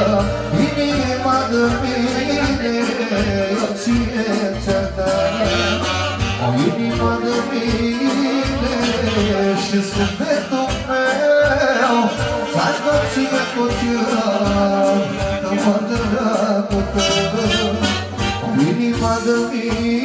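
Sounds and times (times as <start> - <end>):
amplified instrumental backing: 0.0 - 20.0
man singing through microphone: 0.0 - 20.0.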